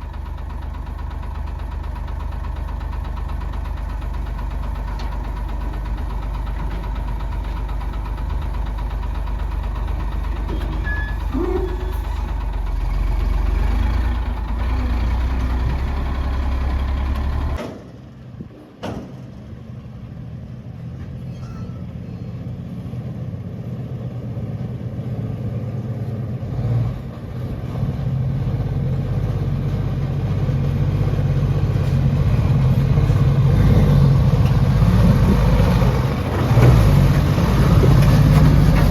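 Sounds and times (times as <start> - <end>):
heavy diesel engine running: 0.0 - 18.6, 21.9 - 38.9.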